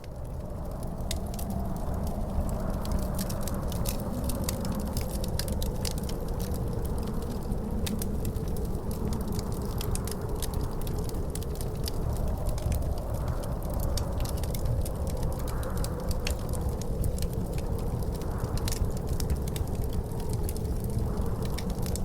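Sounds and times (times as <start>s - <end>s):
howling wind: 0.0s - 22.0s
wind rumble: 0.0s - 22.0s
wood fire crackling and popping: 0.0s - 22.0s.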